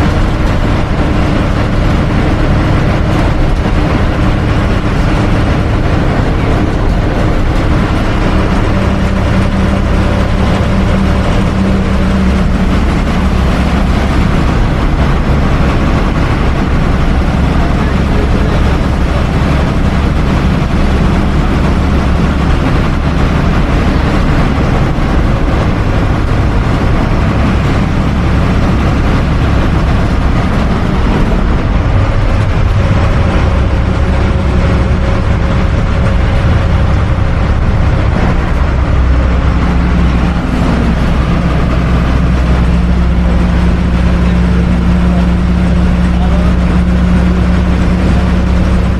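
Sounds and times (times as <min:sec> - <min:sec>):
bus engine drone: 0:00.0 - 0:48.9
road and tyre noise: 0:00.0 - 0:48.9.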